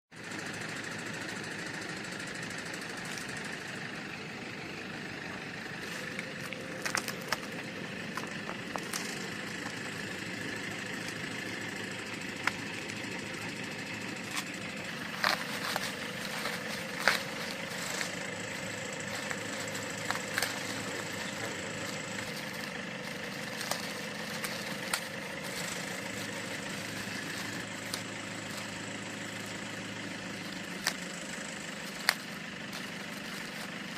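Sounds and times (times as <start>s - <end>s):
engine idling: 0.2s - 33.9s.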